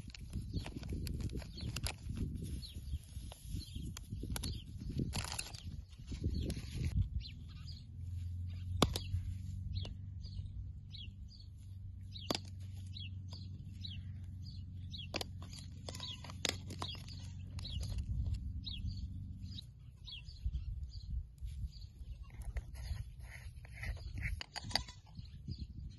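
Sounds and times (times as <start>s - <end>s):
small birds chirping: 0.0s - 25.9s
steady low hum: 0.0s - 25.9s.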